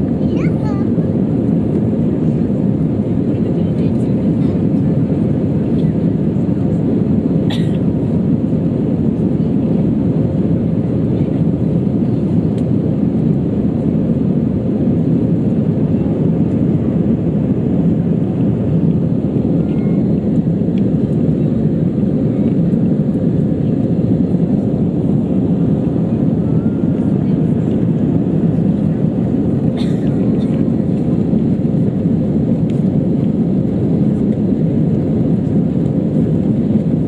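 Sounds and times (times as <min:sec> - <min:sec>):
jet engine cabin roar: 0:00.0 - 0:37.0.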